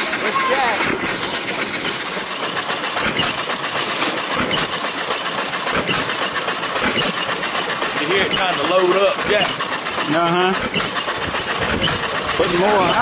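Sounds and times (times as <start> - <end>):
hit-and-miss engine clattering: 0.0 - 13.0.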